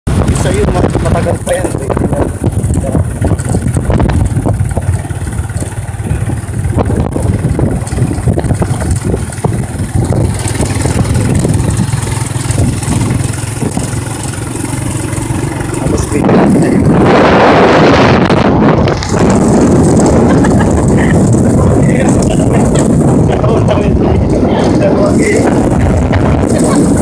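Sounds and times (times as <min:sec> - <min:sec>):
vehicle engine running: 0:00.1 - 0:27.0.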